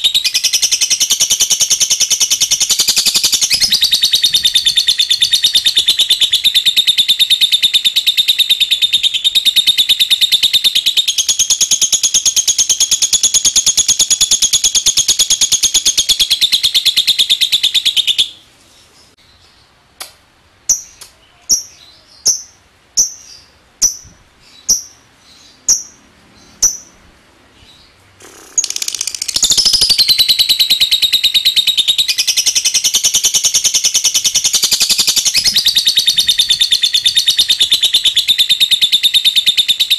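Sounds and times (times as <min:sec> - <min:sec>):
lovebird chattering trill: 0:00.0 - 0:18.4, 0:20.7 - 0:27.0, 0:27.6 - 0:39.9
lovebird sharp chirps: 0:00.0 - 0:18.4, 0:20.7 - 0:27.0, 0:27.6 - 0:39.9.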